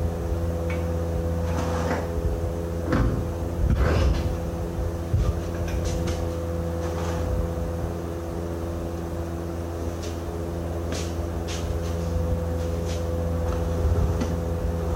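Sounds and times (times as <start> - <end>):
steady engine hum: 0.0 - 14.9.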